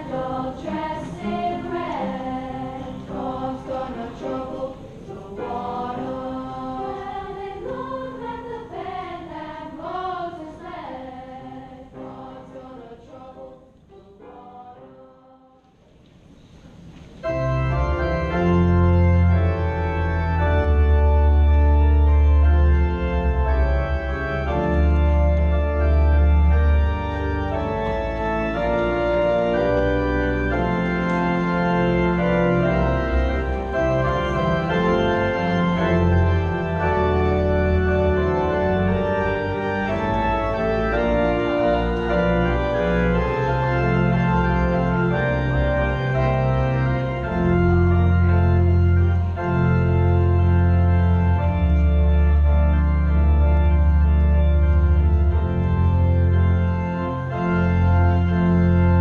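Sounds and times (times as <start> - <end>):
church organ chords: 0.0 - 13.4, 17.2 - 59.0.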